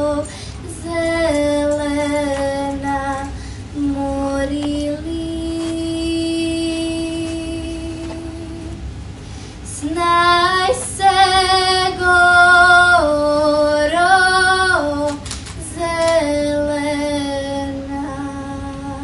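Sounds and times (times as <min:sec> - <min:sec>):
girl singing: 0:00.0 - 0:08.9, 0:09.7 - 0:19.0.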